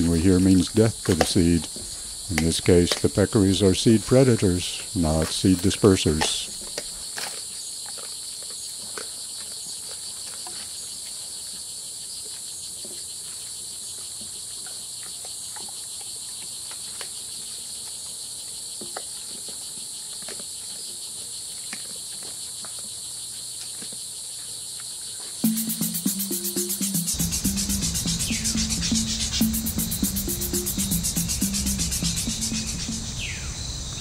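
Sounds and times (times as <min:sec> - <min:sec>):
animals chewing hard seeds: 0:00.0 - 0:33.4
forest insects chorus: 0:00.0 - 0:34.0.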